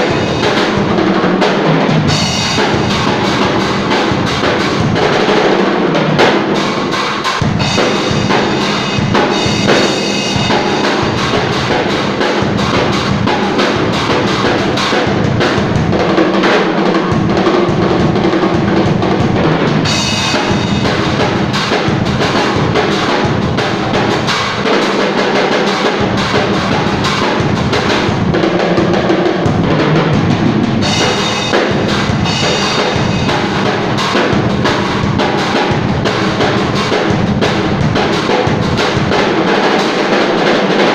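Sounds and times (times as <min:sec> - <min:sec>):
bass drum and snare beat: 0:00.0 - 0:40.9
cymbals crashing: 0:00.0 - 0:40.9.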